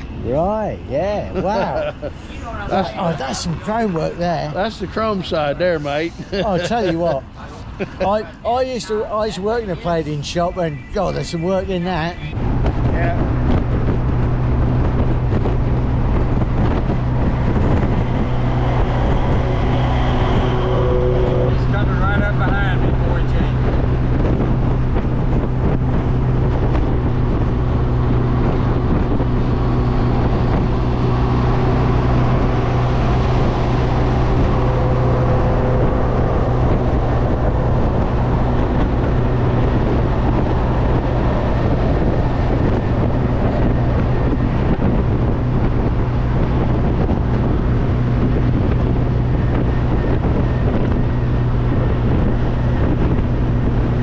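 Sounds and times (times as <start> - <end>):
car engine droning: 0.0 - 54.0
wind rushing over microphone: 0.0 - 54.0.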